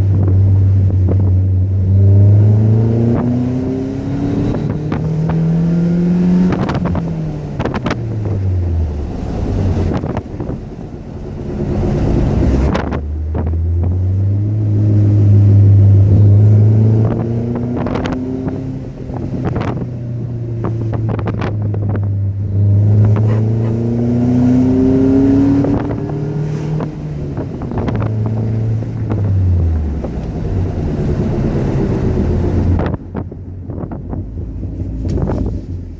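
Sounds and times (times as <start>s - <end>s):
car engine and exhaust revving: 0.0s - 35.9s.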